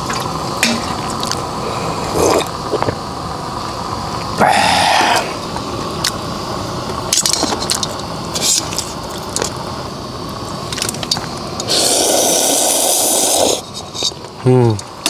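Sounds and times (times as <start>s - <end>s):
food sizzling on griddle: 0.0s - 15.0s.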